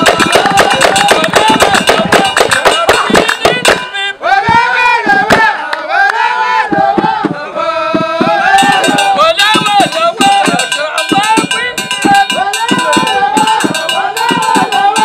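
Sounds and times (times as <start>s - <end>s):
hand drum beats: 0.0s - 4.0s, 6.7s - 15.0s
people clapping: 0.0s - 4.0s, 5.0s - 15.0s
men singing together: 0.0s - 15.0s.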